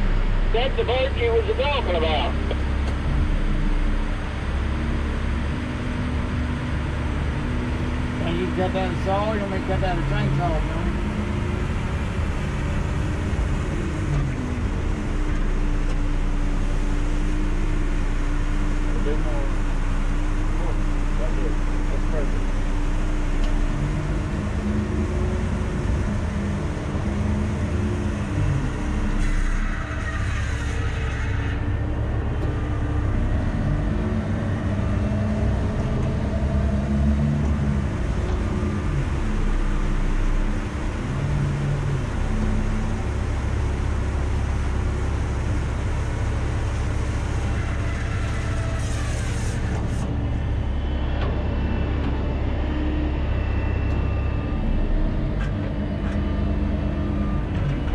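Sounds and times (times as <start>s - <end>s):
diesel engine idling: 0.0s - 57.9s
engine whine: 0.0s - 57.9s.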